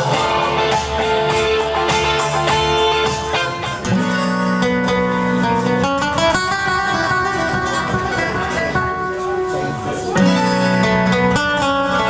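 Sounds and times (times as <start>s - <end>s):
fingerpicked classical guitar: 0.0s - 12.0s.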